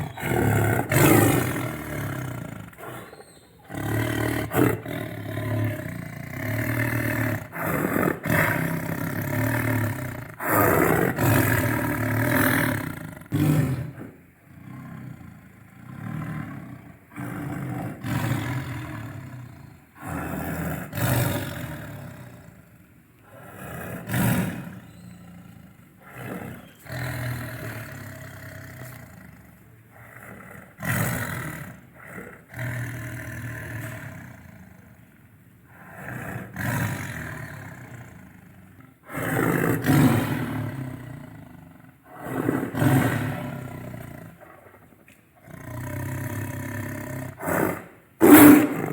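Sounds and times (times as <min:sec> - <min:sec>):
tiger roaring and growling: 0:00.0 - 0:48.9.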